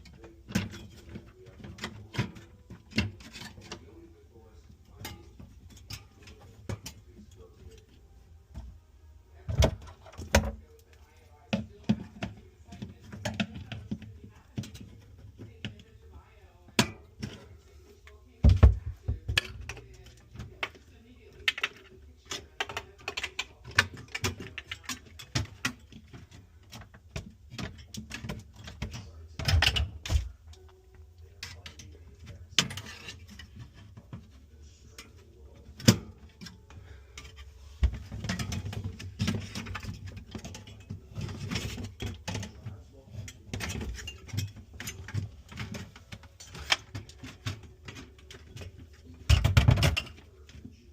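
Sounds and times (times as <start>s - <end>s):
hard parts clicking and clattering: 0.0s - 8.8s, 9.4s - 50.9s.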